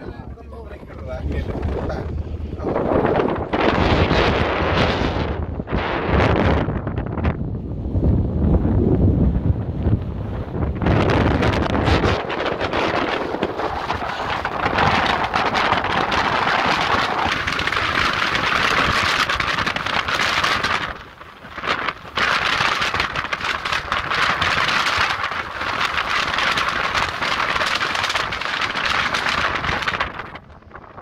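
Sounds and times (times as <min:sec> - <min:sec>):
vehicle driving off-road: 0:00.0 - 0:31.0
wind buffeting microphone: 0:00.0 - 0:31.0.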